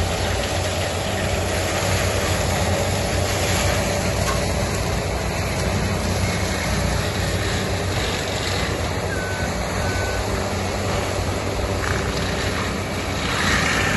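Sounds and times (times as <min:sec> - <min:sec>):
forestry mulcher grinding wood: 0:00.0 - 0:13.9.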